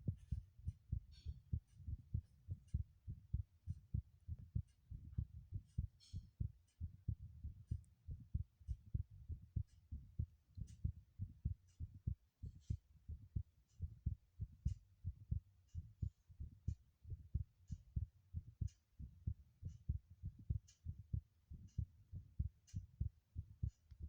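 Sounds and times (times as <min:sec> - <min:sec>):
heartbeat thumps: 0:00.0 - 0:24.0.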